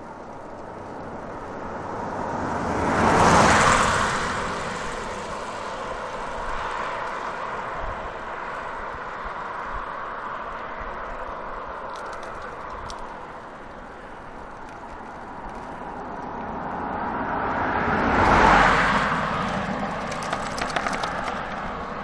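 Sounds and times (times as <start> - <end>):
car passing: 0.0 - 22.0
wind and road noise hiss: 0.0 - 22.0.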